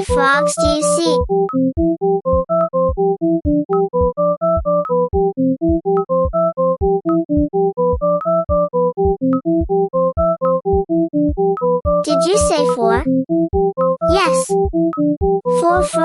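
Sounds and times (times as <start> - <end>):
synthesizer keyboard melody: 0.0 - 16.0.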